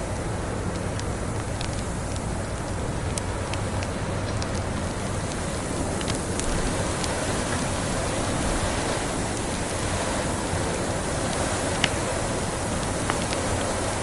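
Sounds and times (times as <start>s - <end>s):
blizzard wind rushing: 0.0s - 14.0s
wood fire crackling and popping: 0.0s - 14.0s.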